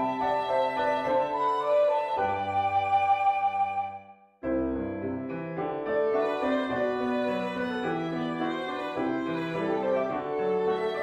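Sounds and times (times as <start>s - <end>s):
violin melody: 0.0s - 4.0s, 5.9s - 11.0s
piano accompaniment: 0.0s - 11.0s.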